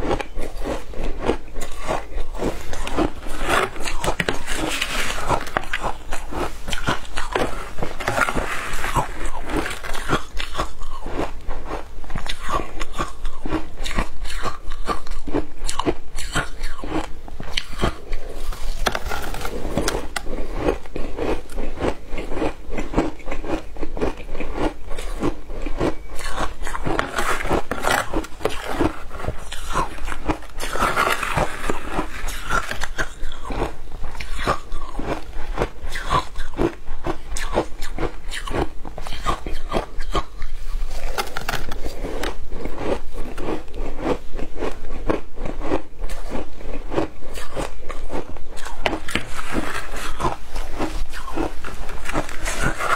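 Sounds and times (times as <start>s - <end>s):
crunching and chewing ice: 0.0s - 52.9s.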